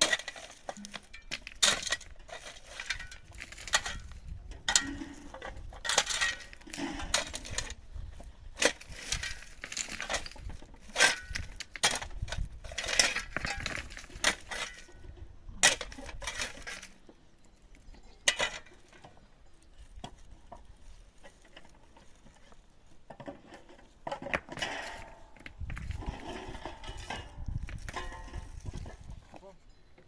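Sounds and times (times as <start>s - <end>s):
scraping: 0.0s - 17.1s, 17.8s - 29.5s.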